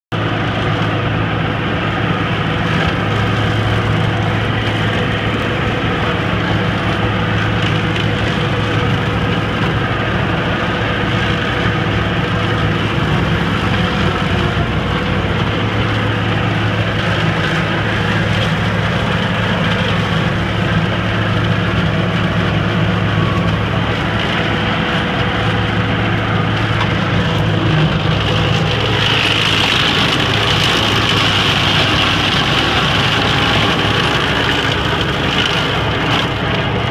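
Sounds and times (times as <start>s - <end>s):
mower shredding scrub: 0.1s - 36.9s
tractor diesel engine running: 0.1s - 36.9s
wood splintering: 2.4s - 36.9s.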